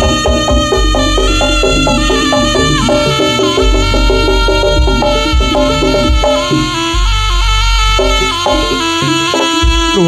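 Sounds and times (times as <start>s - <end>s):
gamelan melody: 0.0s - 10.0s
steady drumming: 0.0s - 10.0s.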